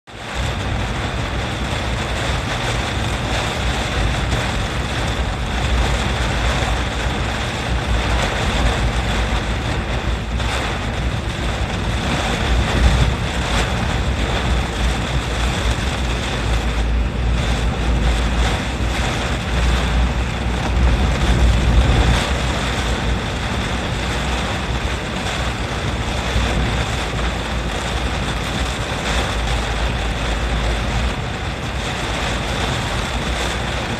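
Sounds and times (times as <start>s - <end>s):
strong wind buffeting microphone: 0.1s - 33.9s.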